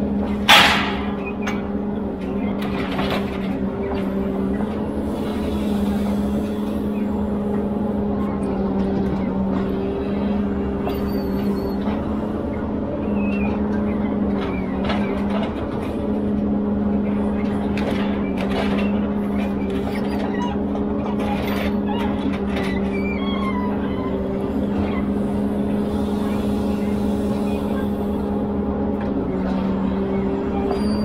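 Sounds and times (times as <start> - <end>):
diesel engine humming: 0.0 - 31.0.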